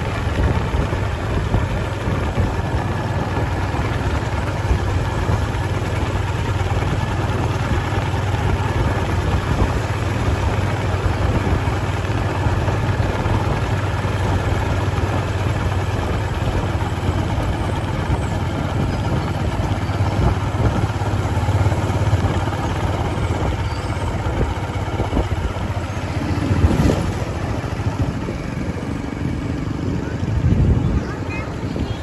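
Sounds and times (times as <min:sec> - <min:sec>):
road and wind noise: 0:00.0 - 0:32.0
vehicle engine running: 0:00.0 - 0:32.0.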